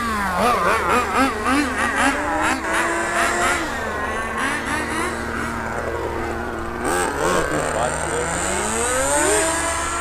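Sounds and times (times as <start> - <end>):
rc car engine revving: 0.0 - 10.0
rc car engine running steadily: 0.0 - 10.0.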